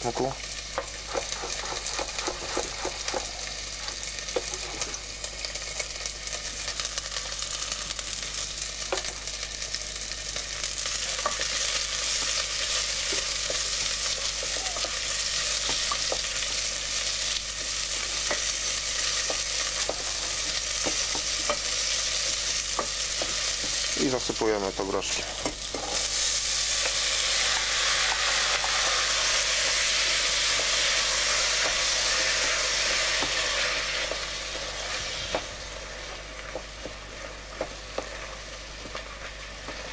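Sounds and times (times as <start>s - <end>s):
onion sizzling in hot oil: 0.0s - 39.9s.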